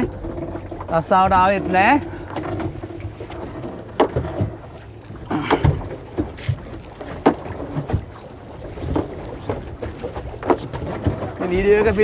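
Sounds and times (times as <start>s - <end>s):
knocks and thumps on a boat: 0.0s - 12.0s.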